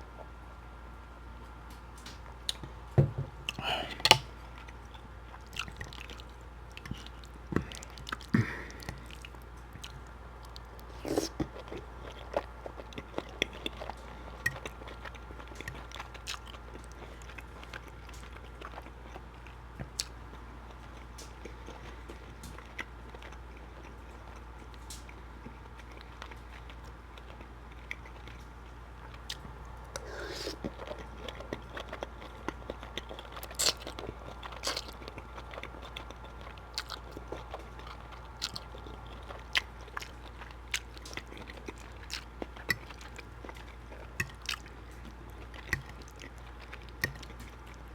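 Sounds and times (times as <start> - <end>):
wet chewing mouth clicks: 3.5 - 20.2, 20.8 - 47.9.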